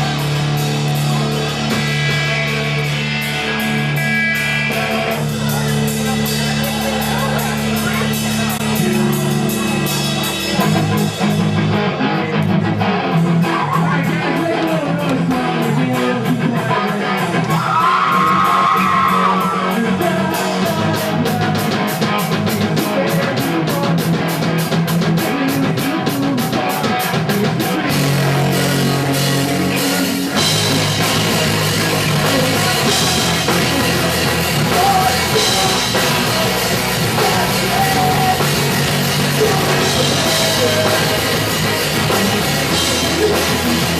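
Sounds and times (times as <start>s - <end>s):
drum kit: 0.0s - 43.9s
electric guitars: 0.0s - 43.9s
person singing: 4.7s - 43.9s.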